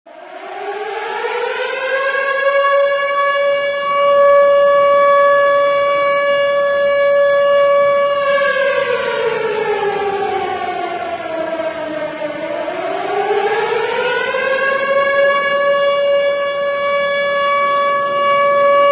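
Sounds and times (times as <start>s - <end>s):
air-raid siren wailing: 0.1s - 18.9s.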